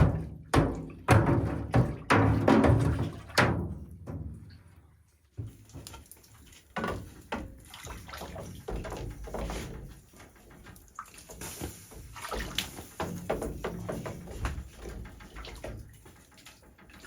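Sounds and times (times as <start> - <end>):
liquid sloshing in a container: 0.0 - 17.0.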